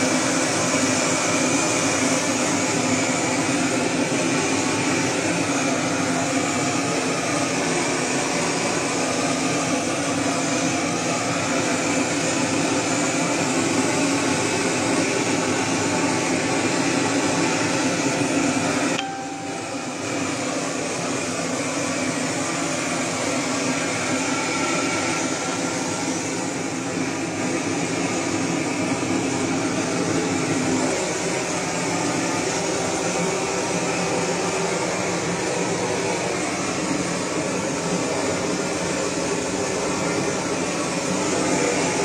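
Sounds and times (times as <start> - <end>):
gas blowtorch hissing: 0.0 - 19.0, 20.0 - 42.0.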